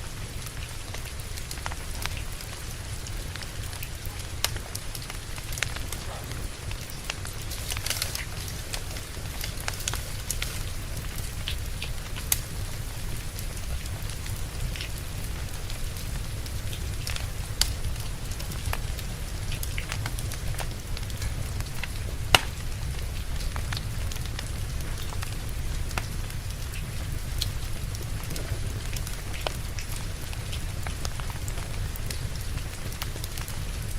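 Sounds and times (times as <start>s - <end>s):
rain hissing: 0.0s - 33.9s
wood fire crackling: 0.0s - 33.9s.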